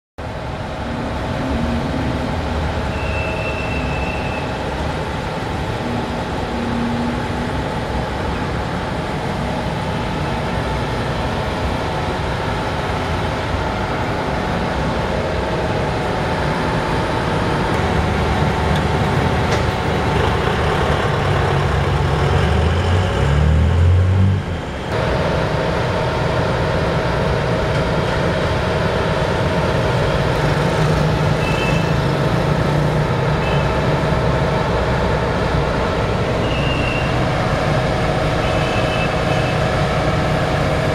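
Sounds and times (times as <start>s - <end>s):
heavy vehicle engine rumble: 0.2s - 40.9s
street traffic: 0.2s - 40.9s.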